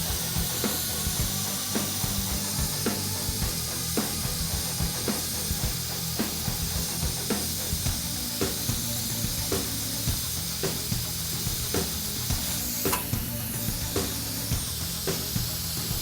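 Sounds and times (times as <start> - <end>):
background music with beat: 0.0 - 16.0
constant hiss: 0.0 - 16.0.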